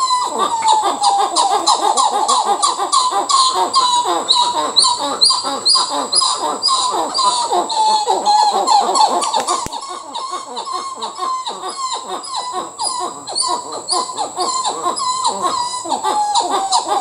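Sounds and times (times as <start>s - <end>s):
monkey calling: 0.0s - 17.0s.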